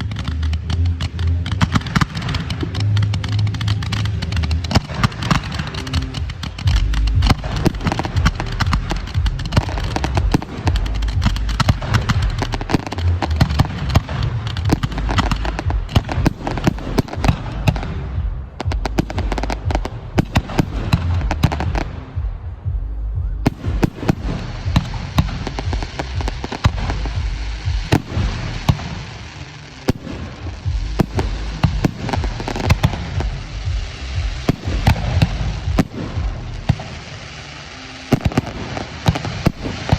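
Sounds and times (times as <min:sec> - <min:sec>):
deep booming thuds: 0:00.0 - 0:37.2
firework bangs and crackles: 0:00.0 - 0:39.9.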